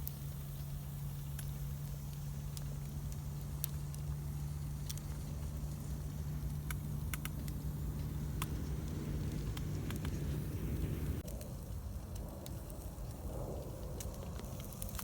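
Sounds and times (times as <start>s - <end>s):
campfire wood crackling: 0.0s - 15.0s
low hum: 0.0s - 15.0s.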